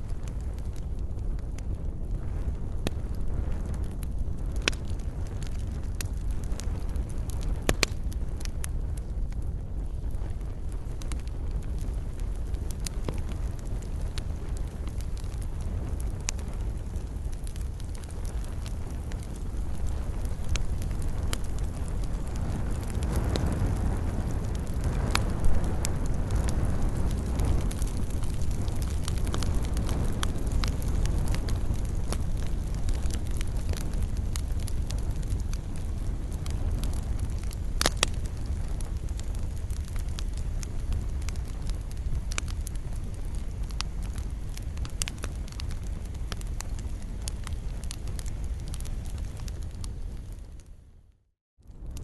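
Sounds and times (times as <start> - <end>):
burning wood crackling and popping: 0.0 - 52.0
campfire flames rumbling: 0.0 - 52.0.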